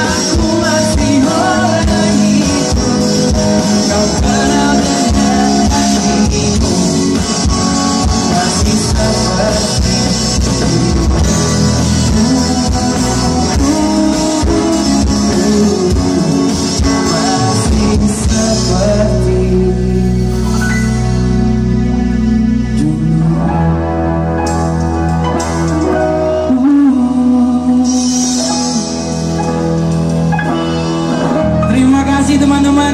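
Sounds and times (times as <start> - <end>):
man singing: 0.0 - 24.5, 25.9 - 29.7, 30.8 - 32.9
bass guitar: 0.0 - 32.9
drums: 0.0 - 32.9
electric guitar: 0.0 - 32.9.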